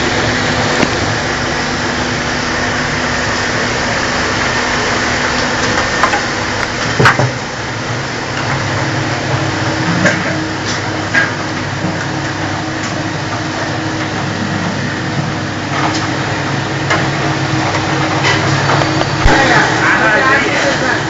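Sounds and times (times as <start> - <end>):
frying machine hissing and humming: 0.0 - 21.0.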